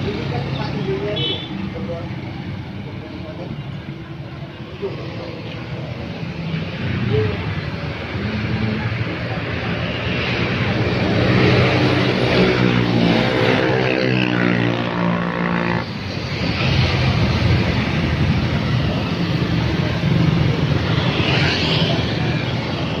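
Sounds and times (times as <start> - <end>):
motorbike engines: 0.0 - 23.0
road traffic: 0.0 - 23.0.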